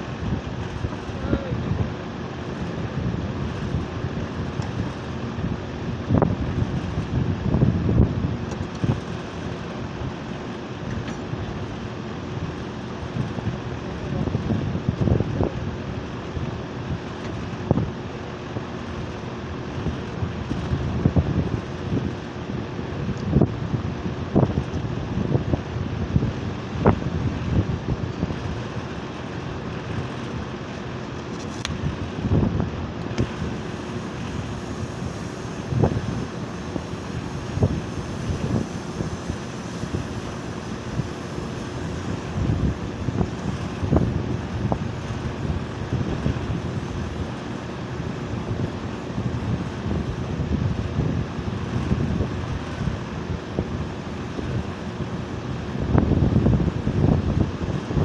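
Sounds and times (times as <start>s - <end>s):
air conditioner mechanical hum: 0.0s - 58.0s
condenser fan rushing: 0.0s - 58.0s.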